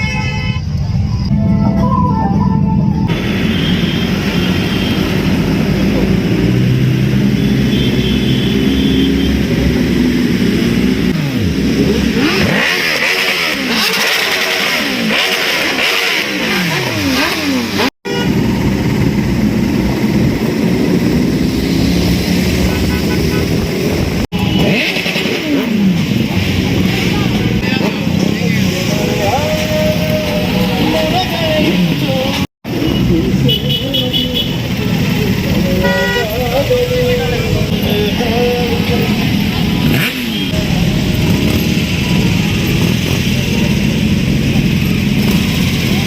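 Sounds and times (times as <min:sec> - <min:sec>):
motorcycle engines revving: 0:02.5 - 0:46.0.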